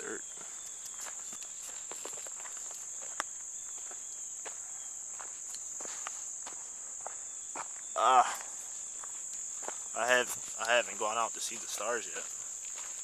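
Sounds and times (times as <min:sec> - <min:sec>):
footsteps on a path: 0:00.0 - 0:13.0
insects chirping: 0:00.0 - 0:13.0.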